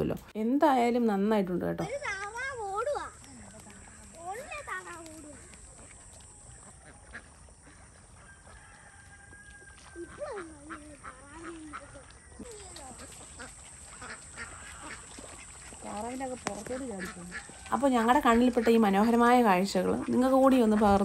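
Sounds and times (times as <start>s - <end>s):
ducks quacking: 2.1s - 21.0s.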